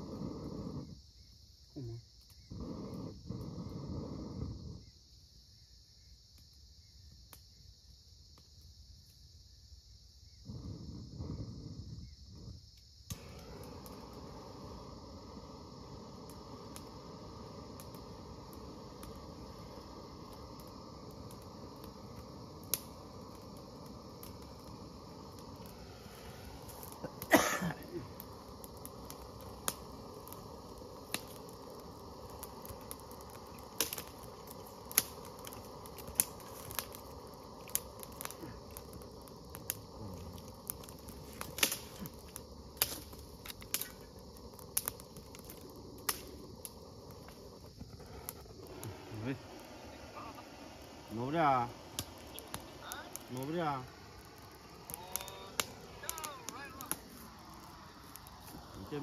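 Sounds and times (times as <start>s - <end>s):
sharp pops from fire: 0.0s - 5.0s, 10.3s - 59.0s
twig fire crackling: 0.0s - 5.1s, 10.2s - 59.0s.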